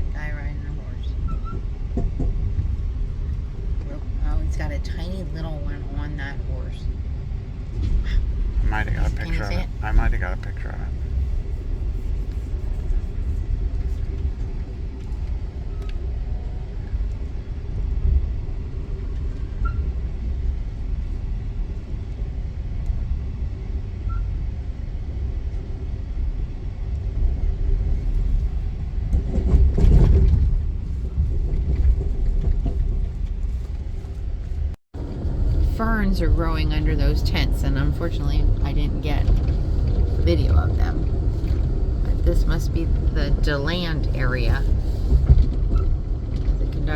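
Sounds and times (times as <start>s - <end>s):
train rumble inside carriage: 0.0s - 46.9s.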